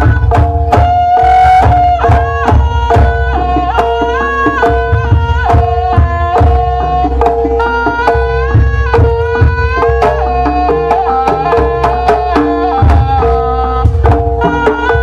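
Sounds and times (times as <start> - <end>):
hand drum strokes: 0.0 - 15.0
reedy wind instrument melody: 0.0 - 15.0.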